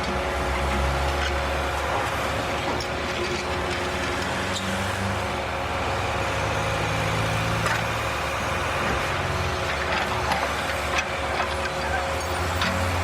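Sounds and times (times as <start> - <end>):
construction site noise: 0.0 - 13.0.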